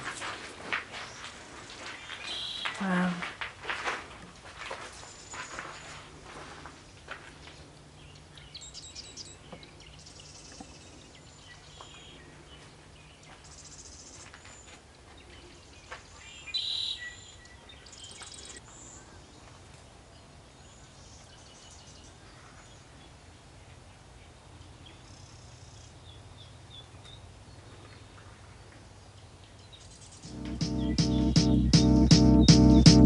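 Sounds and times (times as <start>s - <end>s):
faint bird chirps and trills: 1.0s - 2.9s, 7.9s - 33.0s.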